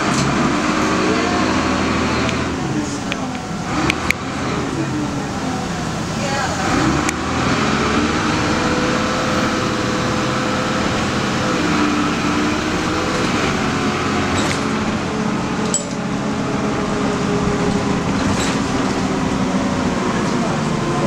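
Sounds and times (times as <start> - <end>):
bus engine whining: 0.0 - 21.0
road noise: 0.0 - 21.0.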